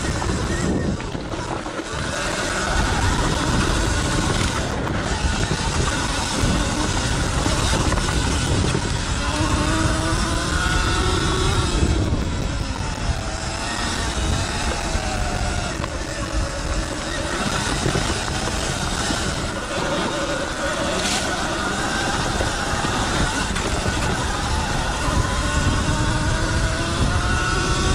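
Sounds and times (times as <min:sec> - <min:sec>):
electric motor whine: 0:00.0 - 0:27.9
tyre noise: 0:00.0 - 0:27.9
wind rush on microphone: 0:00.0 - 0:27.9.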